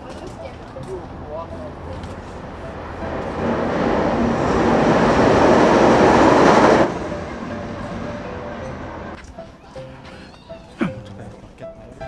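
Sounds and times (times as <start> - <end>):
train crossing steel bridge: 0.0 - 9.9.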